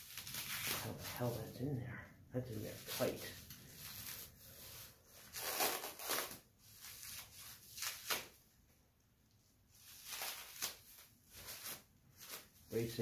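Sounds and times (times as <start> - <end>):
plastic wrap crinkling: 0.0 - 1.6, 2.4 - 8.4, 9.7 - 13.0.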